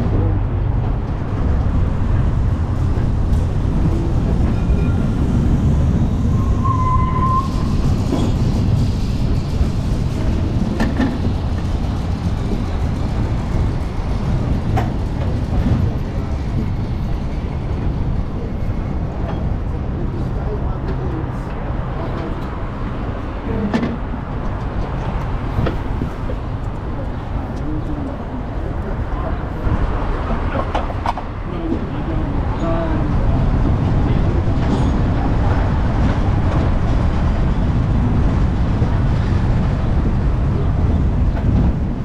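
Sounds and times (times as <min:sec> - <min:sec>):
tram rumbling along track: 0:00.0 - 0:42.0
wind on microphone: 0:00.0 - 0:42.0.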